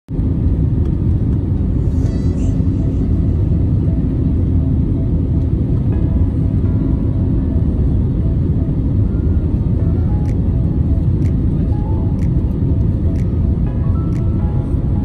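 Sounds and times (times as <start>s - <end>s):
airliner cabin engine rumble: 0.1s - 15.0s.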